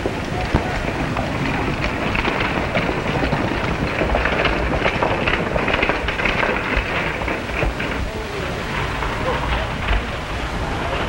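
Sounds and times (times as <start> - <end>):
horse hooves on dirt: 0.0 - 10.2
film soundtrack crackle and hiss: 0.0 - 11.0.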